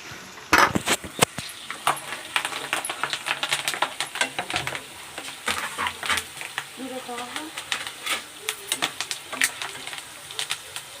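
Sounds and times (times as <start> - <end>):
food frying in hot oil: 0.0 - 11.0
spoon scraping pan: 0.6 - 10.7.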